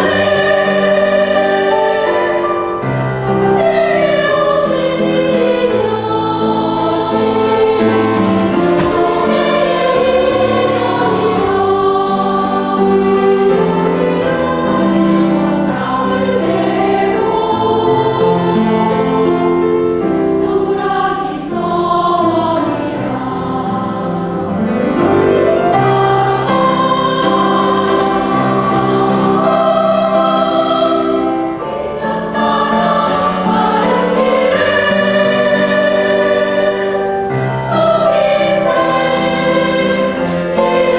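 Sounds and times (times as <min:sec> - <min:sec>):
choir singing sustained chords: 0:00.0 - 0:40.9.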